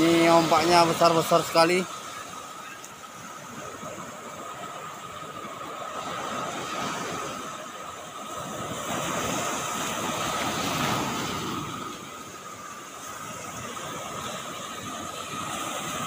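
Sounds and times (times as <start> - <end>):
waves breaking on a beach: 0.0 - 16.0.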